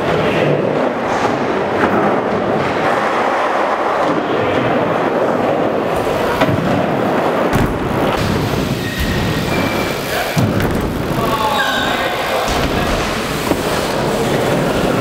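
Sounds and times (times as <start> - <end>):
bike tyres rolling on ramps: 0.0 - 15.0.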